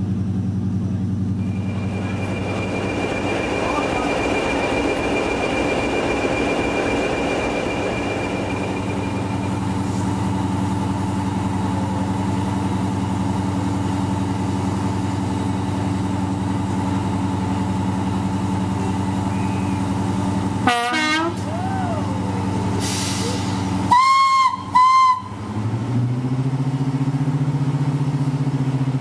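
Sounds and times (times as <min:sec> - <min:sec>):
diesel locomotive idling: 0:00.0 - 0:29.0
second diesel locomotive idling: 0:00.0 - 0:29.0.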